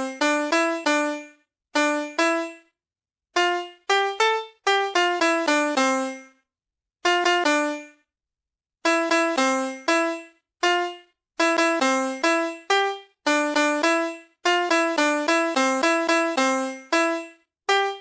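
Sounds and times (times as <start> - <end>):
toy electronic piano notes: 0.0 - 2.6, 3.4 - 6.3, 7.1 - 7.9, 8.8 - 18.0.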